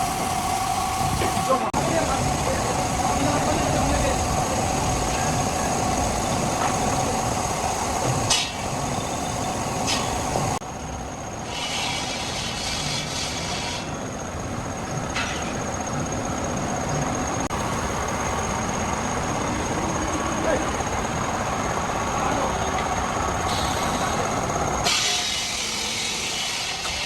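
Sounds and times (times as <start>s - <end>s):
heavy machinery rumbling: 0.0s - 27.0s.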